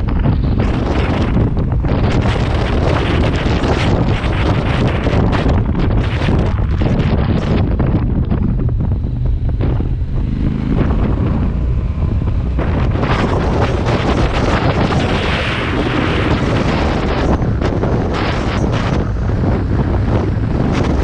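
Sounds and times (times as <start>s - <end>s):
vehicle engine running: 0.0s - 21.0s
wind buffeting microphone: 0.0s - 21.0s.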